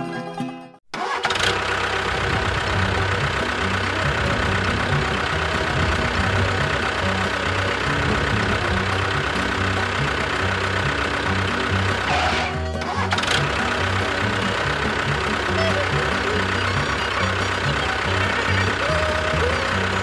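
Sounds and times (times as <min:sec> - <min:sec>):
tractor engine running: 0:00.9 - 0:20.0
background music: 0:02.2 - 0:20.0.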